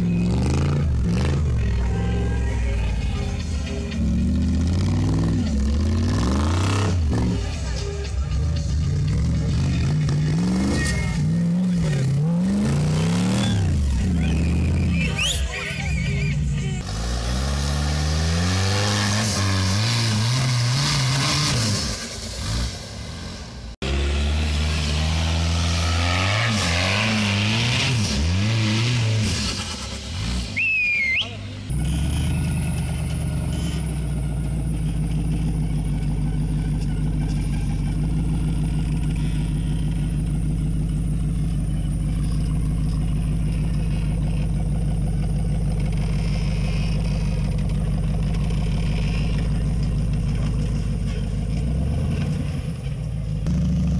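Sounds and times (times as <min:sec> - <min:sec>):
vehicle engine revving: 0:00.0 - 0:53.9.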